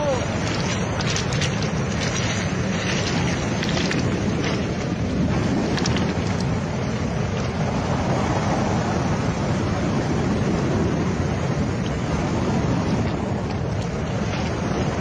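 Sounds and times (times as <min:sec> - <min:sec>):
surf on pebble beach: 0:00.0 - 0:15.0
wind buffeting microphone: 0:00.0 - 0:15.0.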